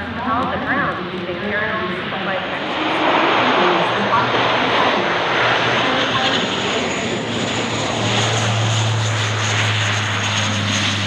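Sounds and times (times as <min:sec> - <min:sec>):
low propeller drone: 0:00.0 - 0:11.0
turboprop aircraft roaring: 0:00.0 - 0:11.0.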